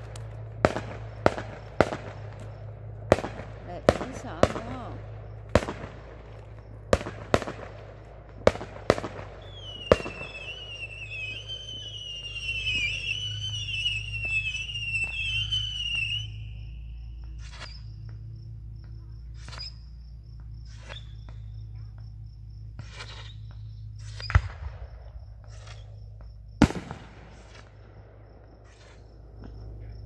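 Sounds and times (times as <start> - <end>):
firework pops and crackles: 0.0 - 16.3, 17.1 - 18.3, 19.3 - 19.8, 20.4 - 22.2, 22.8 - 29.8
firework bangs: 0.0 - 18.0, 22.8 - 30.0
whistling firework: 0.0 - 18.4, 19.2 - 22.0, 22.7 - 30.0
insects chirping: 0.0 - 30.0.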